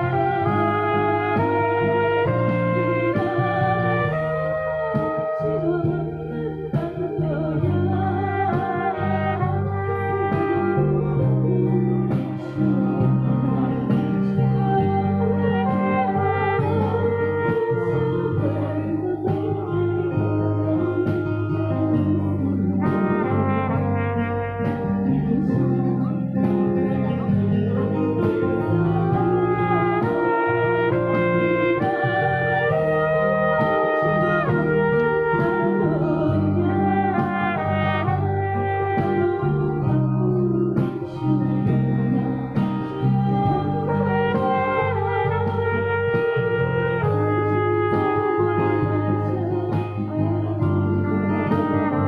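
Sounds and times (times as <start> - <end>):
band instrumental backing: 0.0 - 52.0
bass line: 0.0 - 52.0
trumpet melody: 0.0 - 52.0
woman singing through microphone: 0.0 - 52.0.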